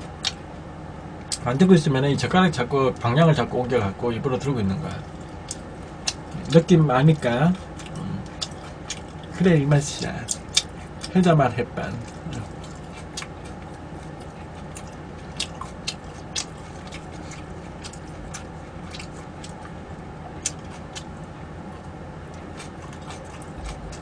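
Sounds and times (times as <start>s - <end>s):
person chewing food: 0.0s - 0.6s, 5.0s - 24.0s
steady low hum: 0.0s - 24.0s.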